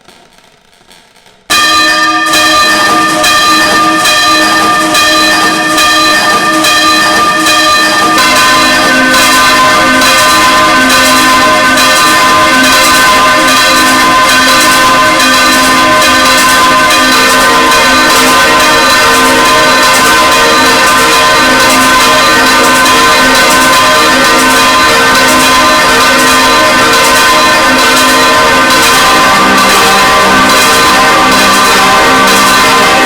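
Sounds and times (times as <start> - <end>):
church bells ringing: 1.5 - 33.0.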